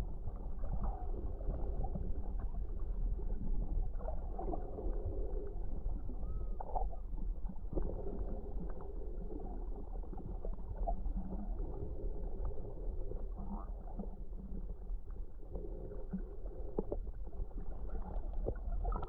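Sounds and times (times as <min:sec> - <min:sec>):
faint gurgling: 0:00.0 - 0:19.0
muffled underwater rumble: 0:00.0 - 0:19.0
small underwater clicks: 0:00.0 - 0:19.0.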